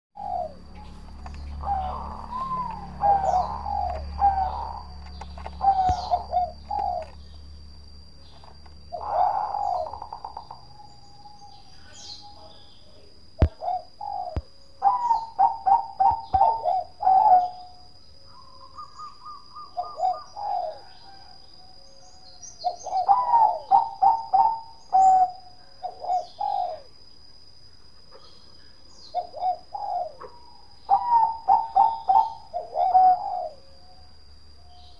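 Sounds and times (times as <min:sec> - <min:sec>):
dove cooing: 0:00.2 - 0:27.0, 0:29.0 - 0:34.0.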